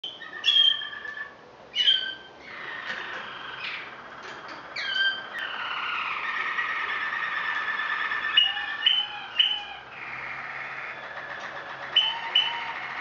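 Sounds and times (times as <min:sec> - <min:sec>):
canaries singing: 0:00.0 - 0:13.0.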